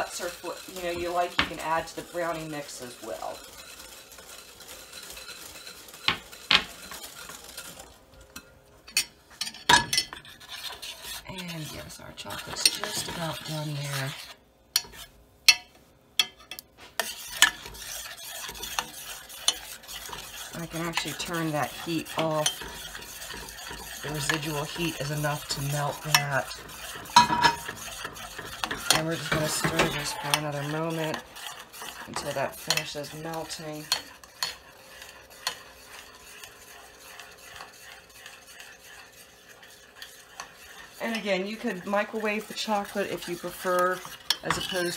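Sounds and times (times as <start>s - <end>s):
spoon scraping pan: 0.0s - 44.9s.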